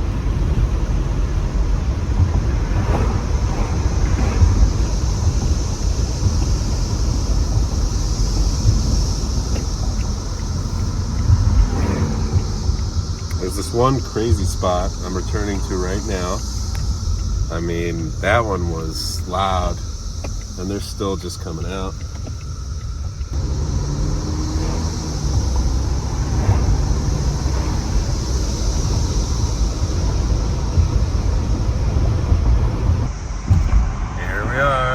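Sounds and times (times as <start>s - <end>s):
cicadas chorus hissing: 0.0s - 34.9s
road and wind noise: 0.0s - 34.9s.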